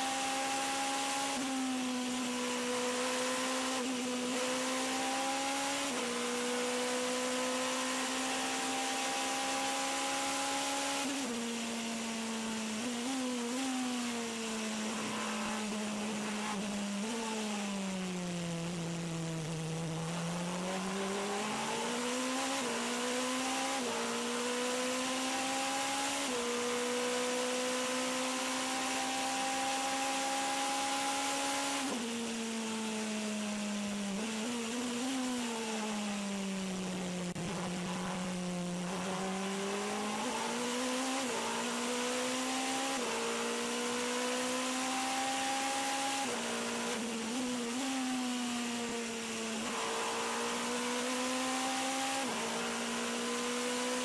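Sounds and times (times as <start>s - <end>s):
race car engine: 0.0s - 54.0s
wind and road noise: 0.0s - 54.0s.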